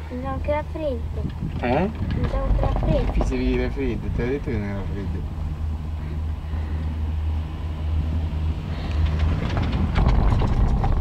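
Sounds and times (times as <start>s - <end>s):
chairlift rope low rumble: 0.9s - 11.0s.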